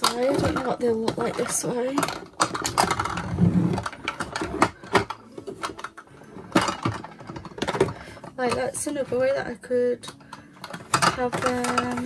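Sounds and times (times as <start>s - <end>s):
makeup compacts clicking and clattering: 0.0s - 12.0s.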